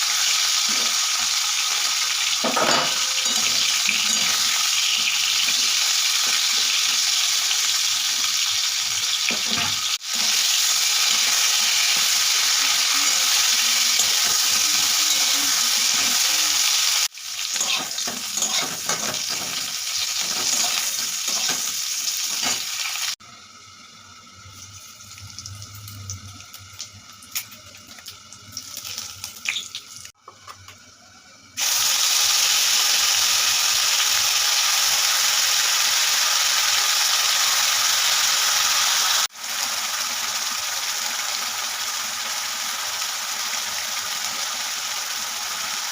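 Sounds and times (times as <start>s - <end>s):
food sizzling in hot oil: 0.0s - 45.9s.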